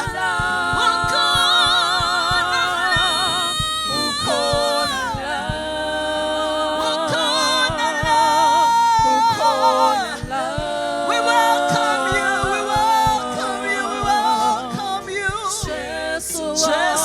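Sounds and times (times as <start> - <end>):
gospel singers in harmony: 0.0 - 17.0
low beat: 0.0 - 17.0.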